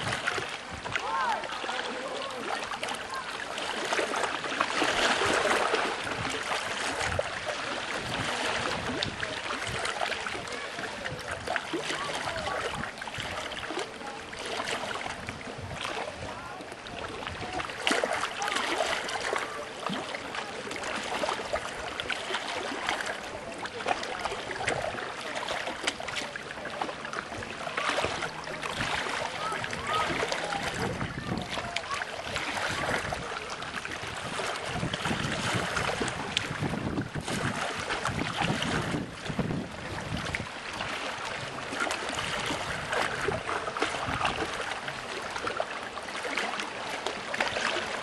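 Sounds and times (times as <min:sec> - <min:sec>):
water rushing around boat hull: 0:00.0 - 0:48.0.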